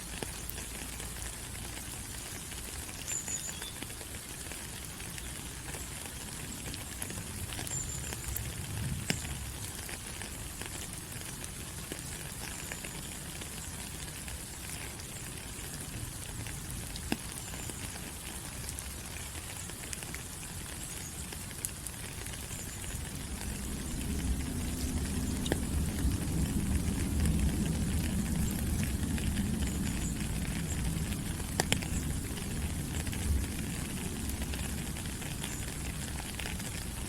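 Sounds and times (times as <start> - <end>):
rain on forest leaves: 0.0 - 37.0.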